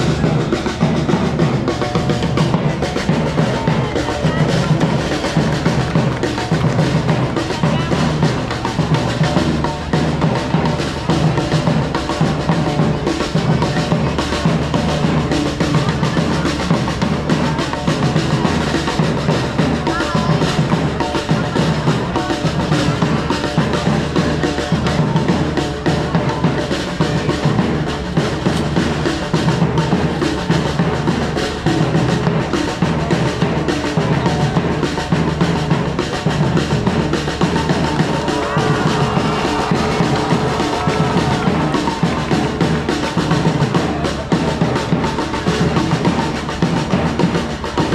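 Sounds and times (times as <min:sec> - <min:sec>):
drum-driven music: 0:00.0 - 0:47.9.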